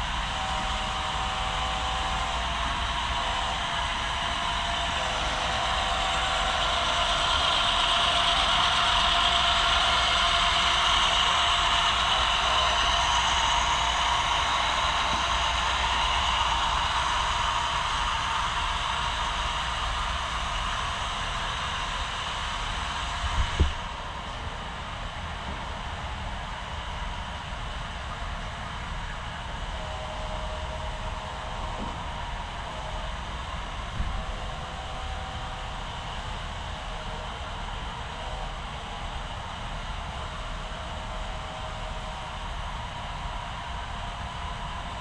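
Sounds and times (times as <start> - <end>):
model train running on track: 0.0 - 45.0.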